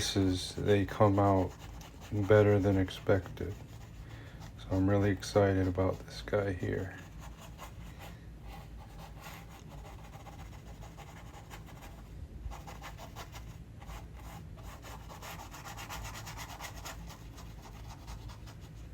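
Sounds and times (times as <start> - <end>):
tool rubbing on artwork surface: 0.0 - 18.9.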